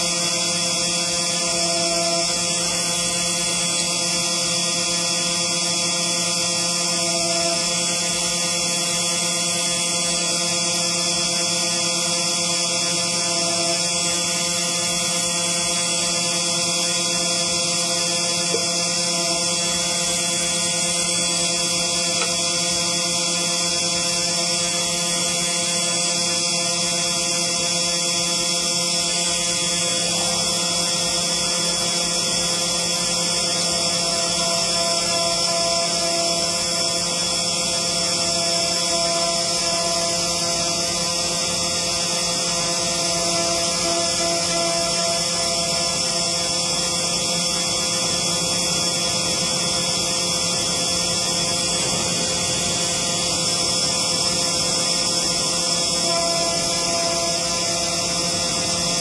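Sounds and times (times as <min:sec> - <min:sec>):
engraving machine humming: 0:00.0 - 0:59.0.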